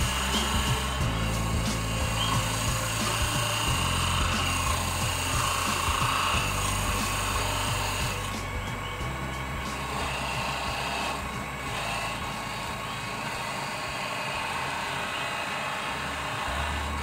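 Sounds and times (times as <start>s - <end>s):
turning tool cutting wood: 0.0s - 17.0s
wood lathe running: 0.0s - 17.0s.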